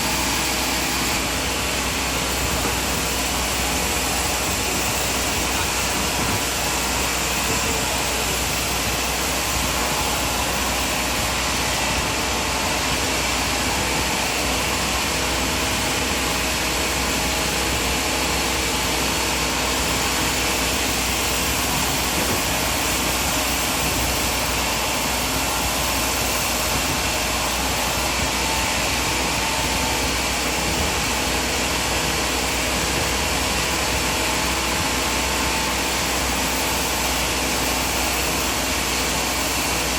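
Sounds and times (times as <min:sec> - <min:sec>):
sawmill machinery hum and hiss: 0:00.0 - 0:39.9.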